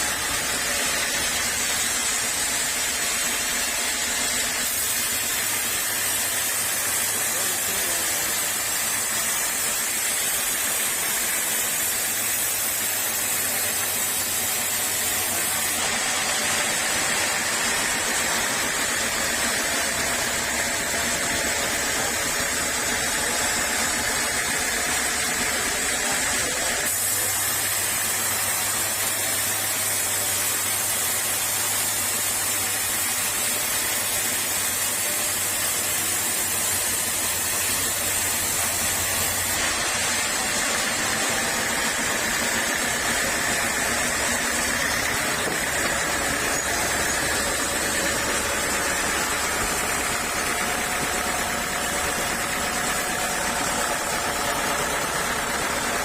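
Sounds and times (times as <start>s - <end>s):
sawmill saw cutting wood: 0.0s - 56.0s.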